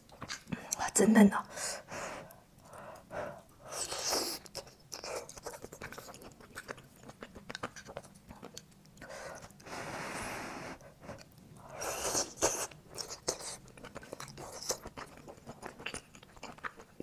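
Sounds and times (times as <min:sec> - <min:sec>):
wet chewing and smacking: 0:00.0 - 0:00.8, 0:02.3 - 0:09.7, 0:11.1 - 0:17.0.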